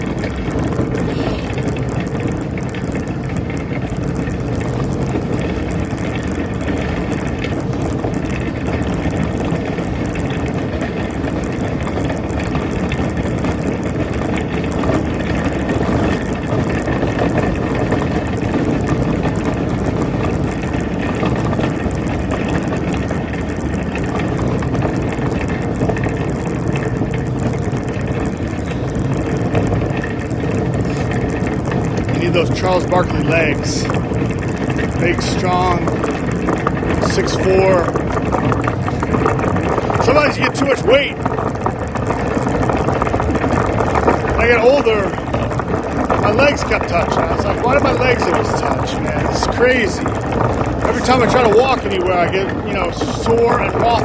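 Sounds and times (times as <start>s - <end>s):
shopping cart rattling over pavement: 0.0s - 54.0s.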